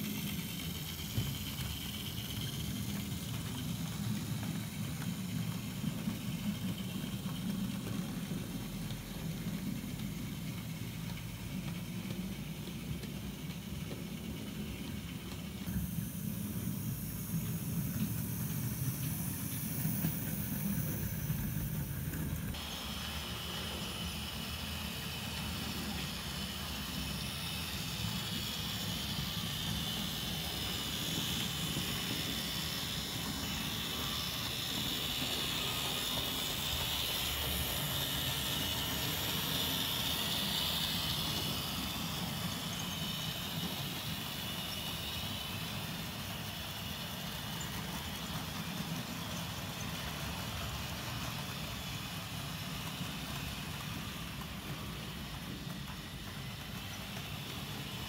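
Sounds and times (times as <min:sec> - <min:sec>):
locomotive hiss: 0:00.0 - 0:58.0
model train rumble: 0:00.0 - 0:58.0.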